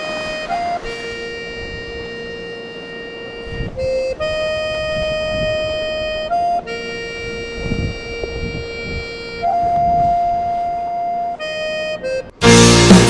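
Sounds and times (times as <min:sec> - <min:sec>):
slow reedy organ-like music: 0:00.0 - 0:13.0.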